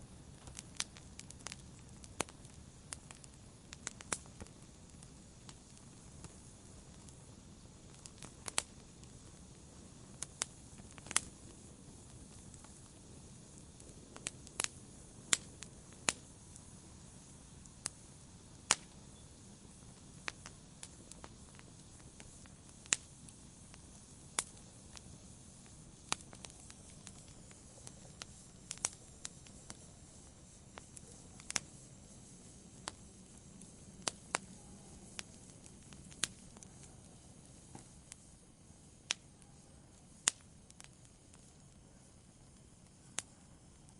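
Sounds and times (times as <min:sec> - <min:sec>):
burning wood crackling and popping: 0:00.0 - 0:43.9
campfire flames hissing: 0:00.0 - 0:43.9.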